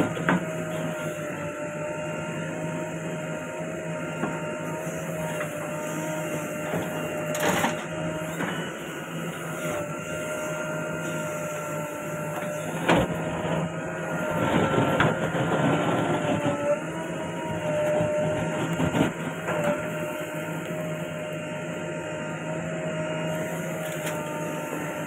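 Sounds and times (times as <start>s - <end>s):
diesel engine running with whine: 0.0s - 25.0s.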